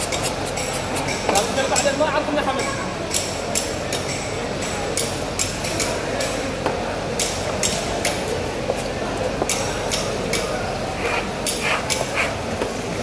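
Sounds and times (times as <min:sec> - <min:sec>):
background hubbub: 0:00.0 - 0:13.0.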